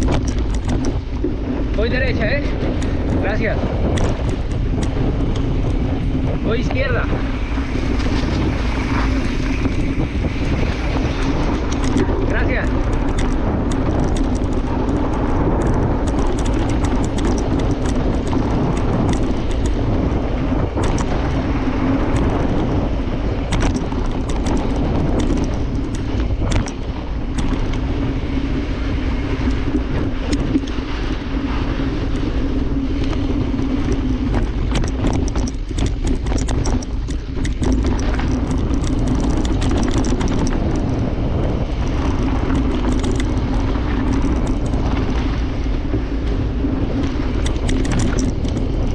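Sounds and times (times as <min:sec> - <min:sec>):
bike clicks and rattles: 0:00.0 - 0:48.9
bike tyre noise on dirt: 0:00.0 - 0:48.9
wind on microphone: 0:00.0 - 0:48.9.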